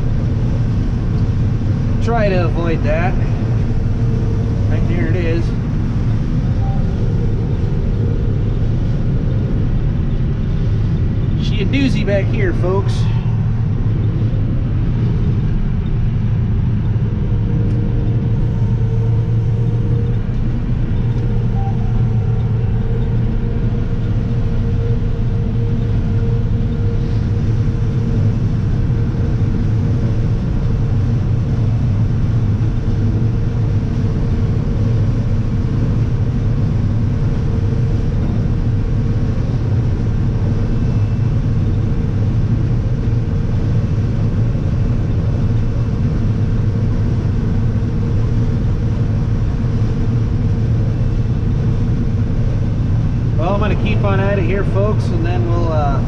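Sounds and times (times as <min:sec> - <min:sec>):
combine harvester droning: 0:00.0 - 0:56.0
faint steady hum: 0:00.0 - 0:56.0.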